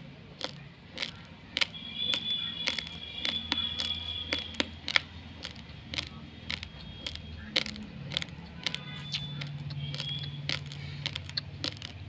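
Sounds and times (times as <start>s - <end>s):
uncooked rice crunching: 0.0s - 12.0s.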